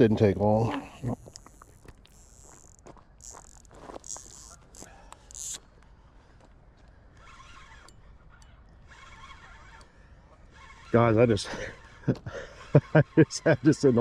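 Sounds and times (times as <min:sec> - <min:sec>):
fishing reel buzzing and clicking: 0:00.9 - 0:05.9, 0:07.1 - 0:14.0.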